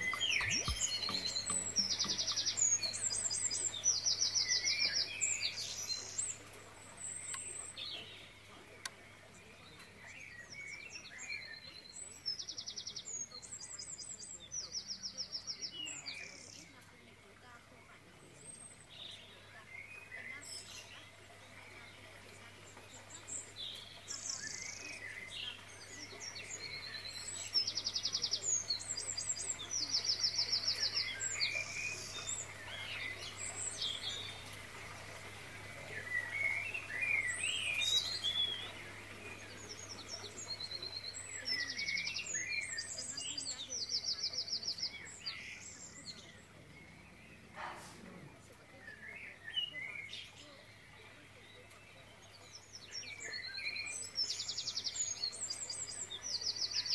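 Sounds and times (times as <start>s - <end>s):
birds singing: 0.0s - 56.9s.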